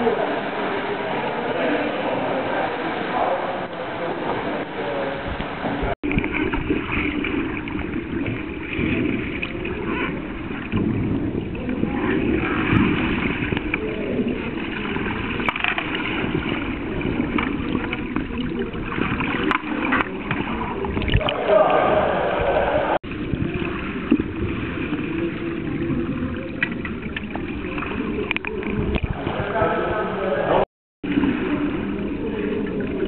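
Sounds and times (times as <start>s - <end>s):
muffled underwater rushing water: 0.0s - 33.0s.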